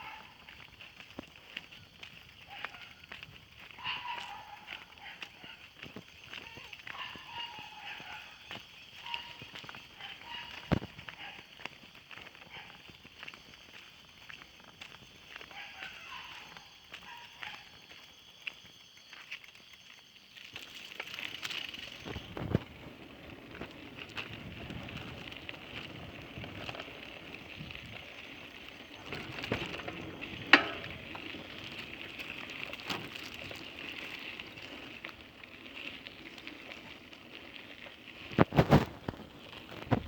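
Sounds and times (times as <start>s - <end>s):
bicycle tyres crackling on pavement: 0.0s - 40.0s.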